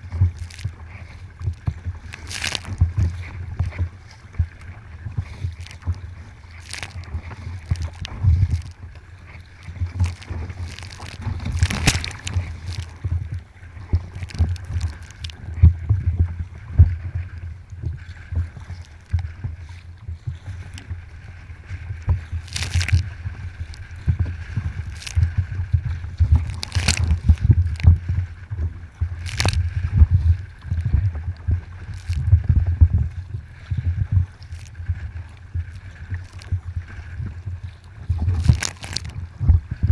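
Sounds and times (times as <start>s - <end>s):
paddle splashes: 0.0s - 39.9s
water sloshing against hull: 0.0s - 39.9s
wind buffeting microphone: 0.0s - 39.9s.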